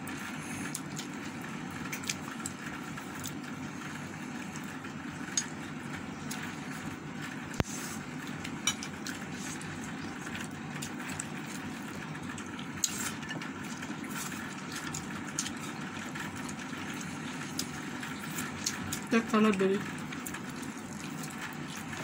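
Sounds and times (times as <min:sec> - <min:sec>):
steady low hum: 0:00.0 - 0:22.0
person eating and chewing: 0:00.1 - 0:06.9, 0:07.5 - 0:19.1, 0:19.9 - 0:22.0.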